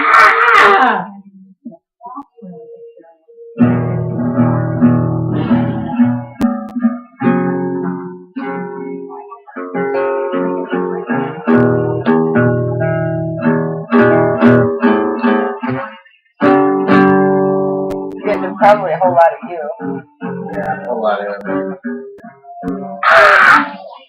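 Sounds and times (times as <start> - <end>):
acoustic guitar strumming chords: 2.4 - 23.0.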